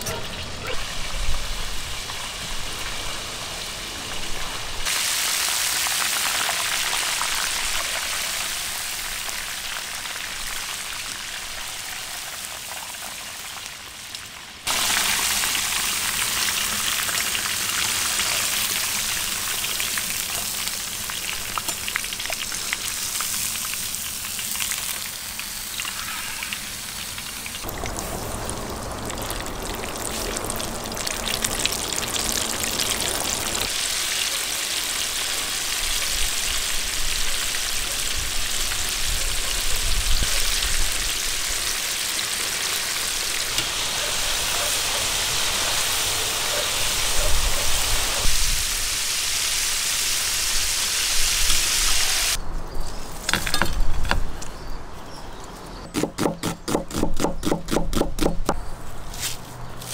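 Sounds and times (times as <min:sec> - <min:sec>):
meat deep-frying in hot oil: 0:00.3 - 0:52.4.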